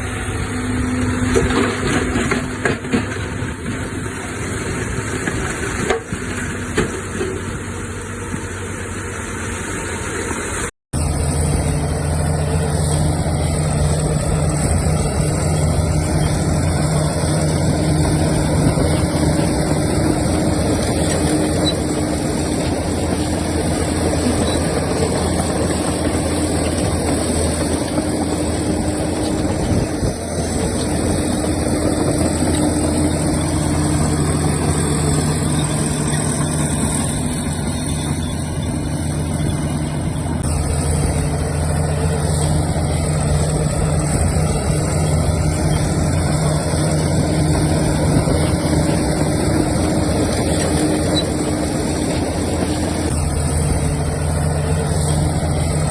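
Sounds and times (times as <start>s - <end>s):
diesel engines running: 0.0s - 55.9s.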